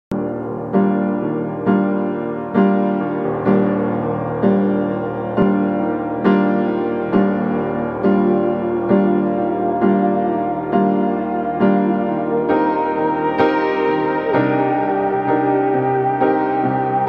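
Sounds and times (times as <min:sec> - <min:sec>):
slow piano chords: 0:00.1 - 0:17.0.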